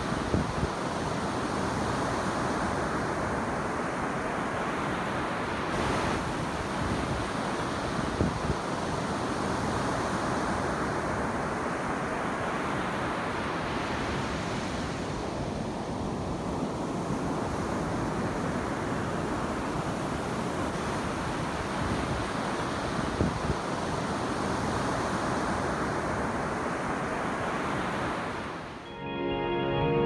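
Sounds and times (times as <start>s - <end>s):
wind on microphone: 0.0s - 28.5s
ocean waves breaking on beach: 0.0s - 28.8s.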